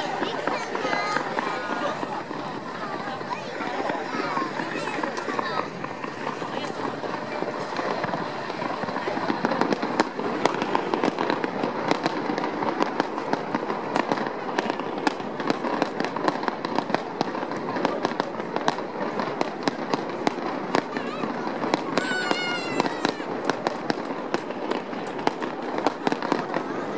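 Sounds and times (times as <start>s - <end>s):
fireworks popping and crackling: 0.0s - 26.9s.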